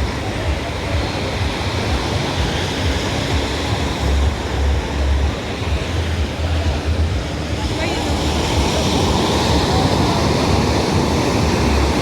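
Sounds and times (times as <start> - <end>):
sea surf on beach: 0.0 - 12.0
wind rumbling on microphone: 0.0 - 12.0.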